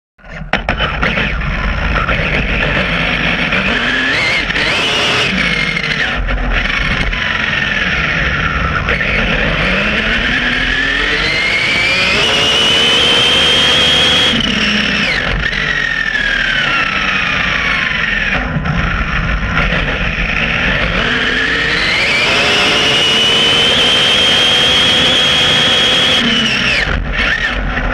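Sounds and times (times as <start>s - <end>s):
electric motor whine: 0.9s - 27.9s.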